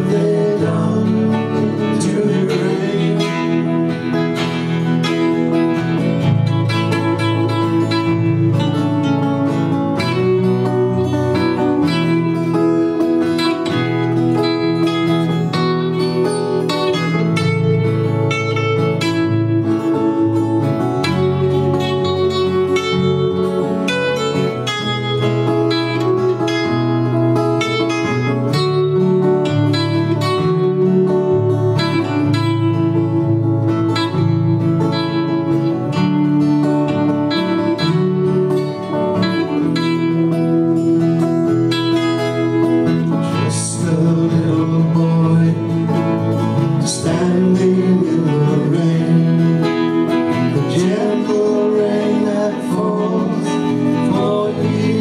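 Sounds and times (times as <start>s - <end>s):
acoustic guitars playing: 0.0s - 55.0s.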